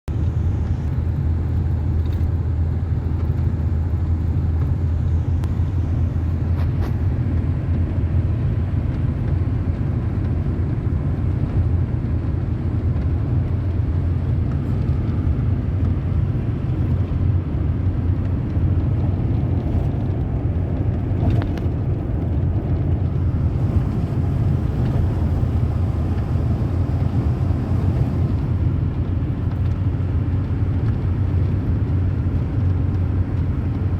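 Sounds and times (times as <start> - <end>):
vehicle engine and road noise: 0.0 - 33.9.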